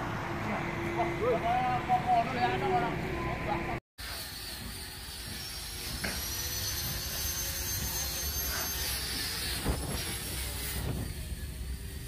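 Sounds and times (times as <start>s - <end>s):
diesel cable winch whining: 0.0s - 12.0s.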